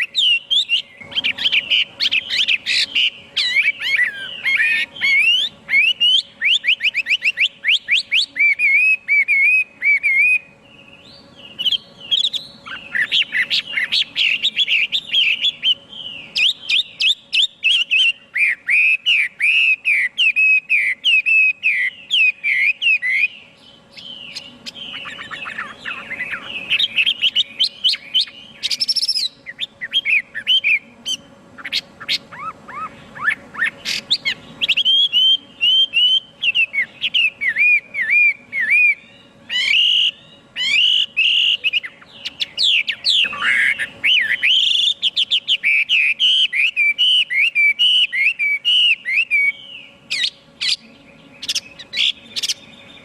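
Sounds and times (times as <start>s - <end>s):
faint steady hum: 0.0s - 53.0s
songbird whistling and trilling: 0.0s - 53.0s.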